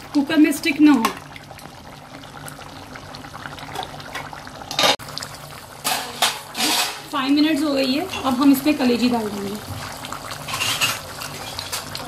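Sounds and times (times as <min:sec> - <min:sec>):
stew boiling and bubbling: 0:00.0 - 0:12.0.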